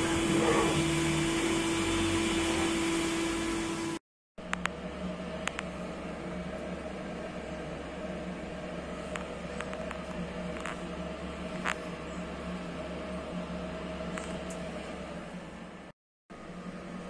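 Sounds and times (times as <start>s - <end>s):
machining centre humming: 0.0s - 17.0s.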